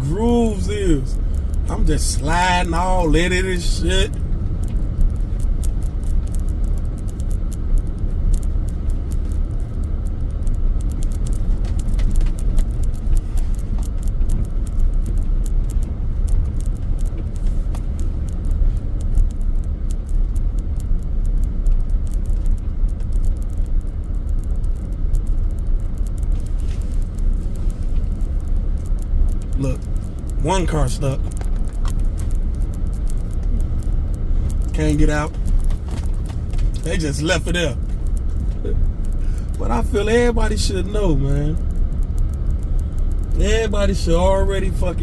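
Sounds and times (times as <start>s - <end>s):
engine and tyres rumbling: 0.0s - 45.0s
faint scattered clicks: 0.0s - 45.0s.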